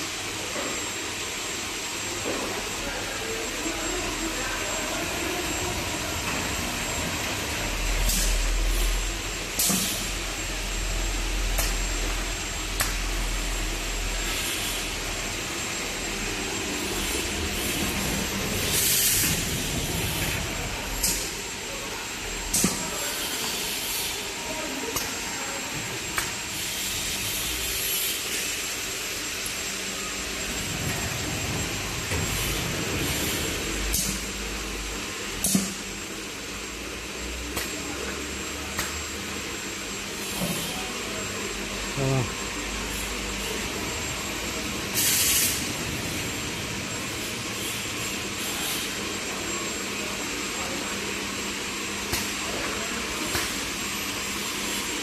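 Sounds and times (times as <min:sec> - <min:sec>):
machine hum and hiss: 0:00.0 - 0:55.0.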